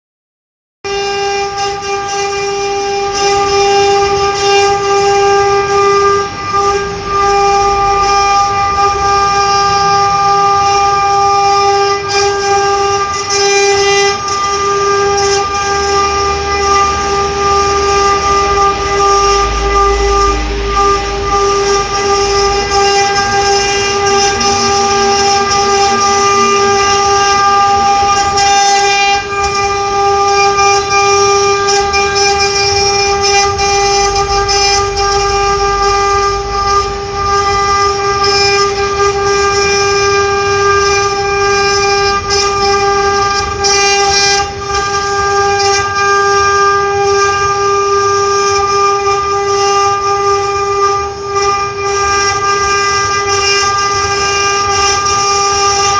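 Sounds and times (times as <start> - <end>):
cnc router spindle whine: 0.9 - 55.9.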